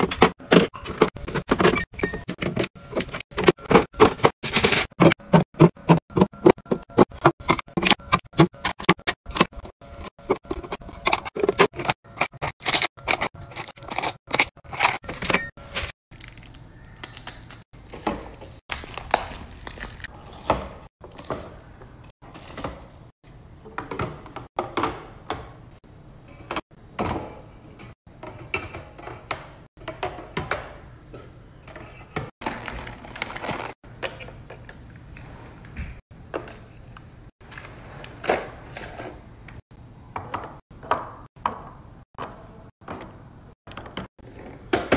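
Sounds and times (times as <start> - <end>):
cans and packs clacking in bins: 0.0 - 25.6, 26.3 - 34.9, 37.4 - 39.6.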